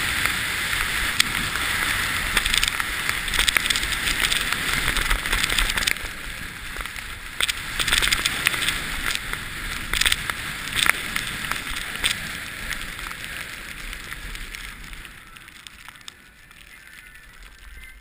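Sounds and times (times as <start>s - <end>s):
wind noise on microphone: 0.0s - 18.0s
snow scraping under skis: 0.4s - 15.4s.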